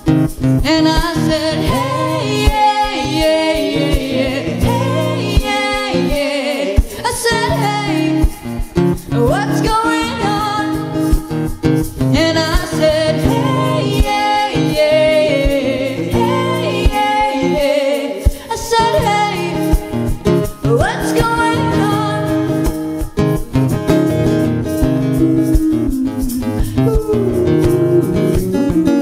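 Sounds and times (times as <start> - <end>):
strummed acoustic guitar: 0.0 - 29.0
man and woman singing: 0.6 - 11.2, 12.1 - 22.6, 24.8 - 29.0.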